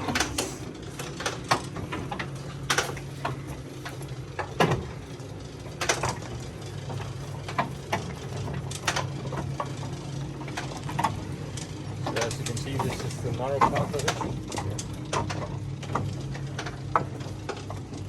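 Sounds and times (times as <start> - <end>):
lift wheels clicking and knocking: 0.0 - 18.0
winch drive humming: 0.0 - 18.0.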